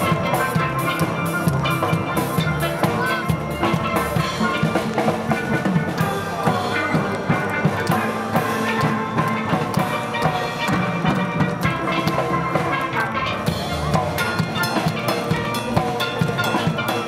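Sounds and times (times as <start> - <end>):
drums: 0.0 - 17.0
steel pan band playing: 0.0 - 17.0.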